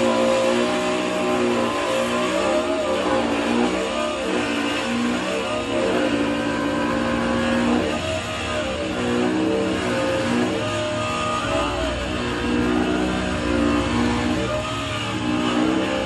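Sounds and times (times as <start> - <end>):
music with held notes: 0.0 - 16.0.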